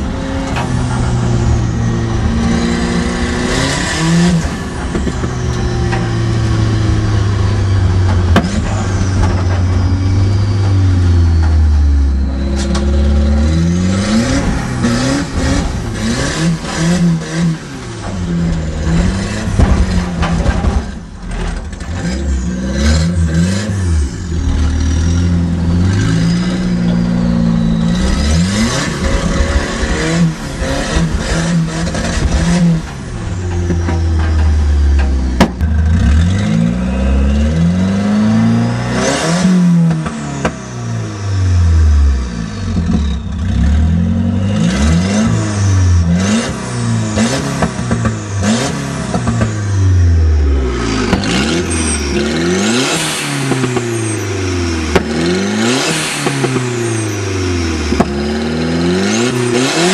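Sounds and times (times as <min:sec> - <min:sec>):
car engine revving hard: 0:00.0 - 0:59.9.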